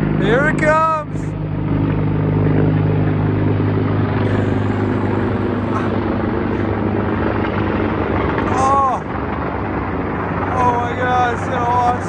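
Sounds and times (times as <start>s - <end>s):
helicopter flying over: 0.0s - 12.0s.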